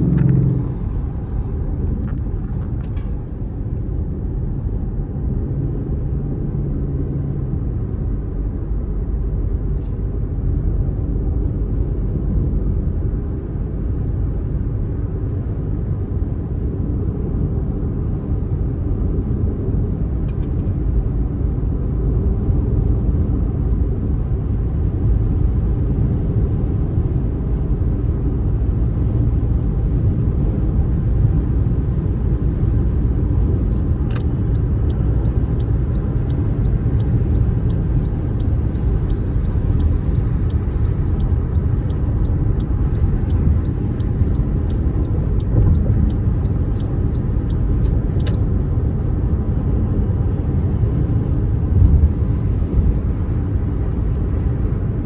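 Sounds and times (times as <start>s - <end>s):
car road rumble: 0.0s - 55.0s.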